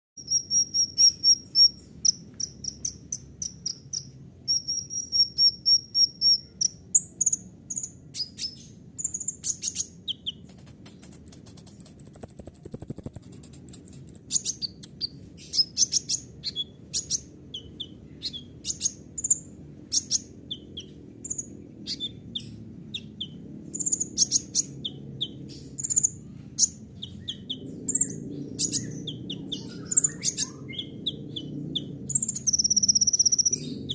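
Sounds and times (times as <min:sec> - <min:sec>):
sunbird singing: 0:00.2 - 0:33.9.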